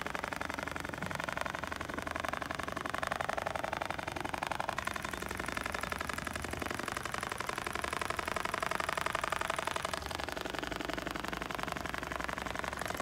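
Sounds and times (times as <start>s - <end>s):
sewing machine needle chatter: 0.0s - 13.0s.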